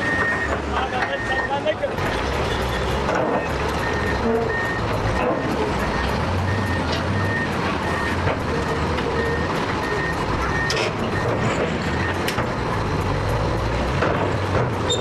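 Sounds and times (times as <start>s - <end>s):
reversing alarm beeping: 0.0s - 1.8s, 2.5s - 13.0s
heavy machine engine rumbling: 0.0s - 15.0s.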